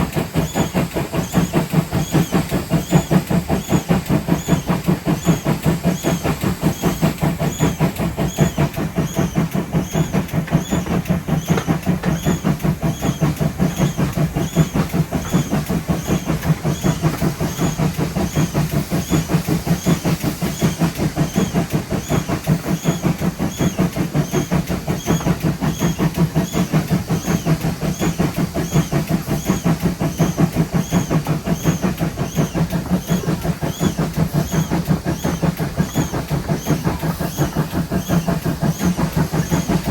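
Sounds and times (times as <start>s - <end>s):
steam locomotive running: 0.0s - 39.9s.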